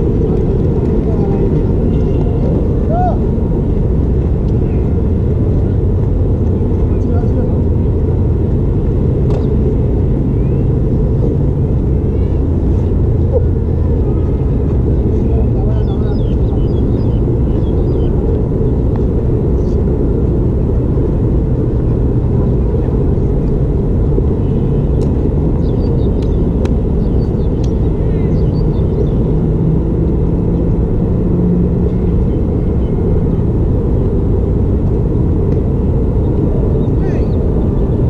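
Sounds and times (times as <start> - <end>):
traffic rumble: 0.0 - 38.0
vehicle engine drone: 0.0 - 38.0.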